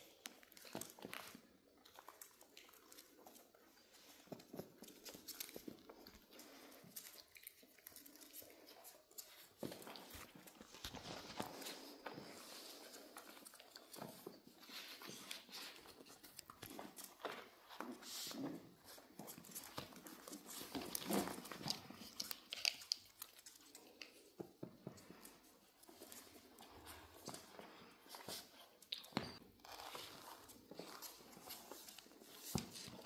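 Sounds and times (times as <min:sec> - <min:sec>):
paws scuffling on wood floor: 0:00.1 - 0:33.0.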